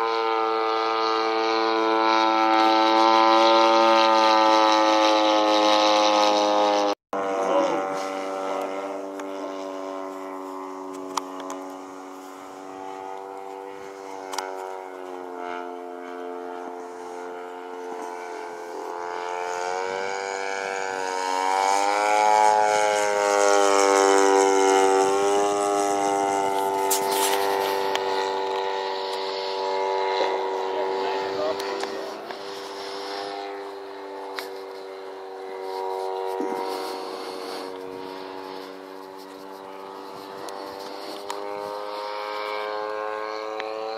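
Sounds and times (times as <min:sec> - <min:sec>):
model plane engine droning: 0:00.0 - 0:43.9.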